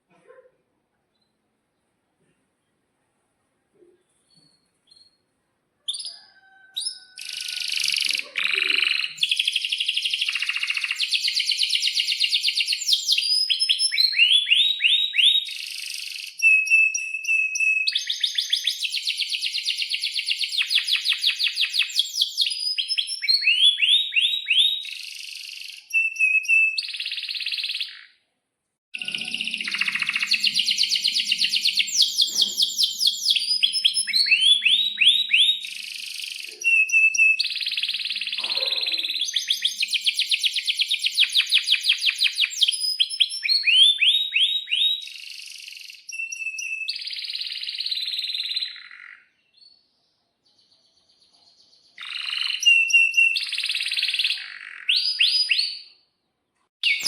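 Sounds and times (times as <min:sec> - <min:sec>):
canary singing: 0:05.9 - 0:28.2, 0:29.0 - 0:49.8, 0:51.9 - 0:56.0.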